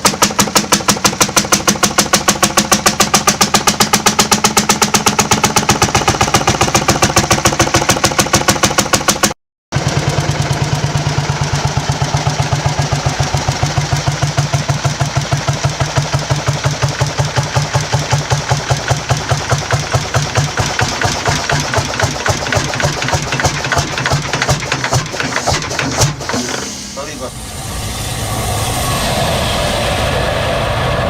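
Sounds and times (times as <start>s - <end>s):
old engine running: 0.0s - 27.3s.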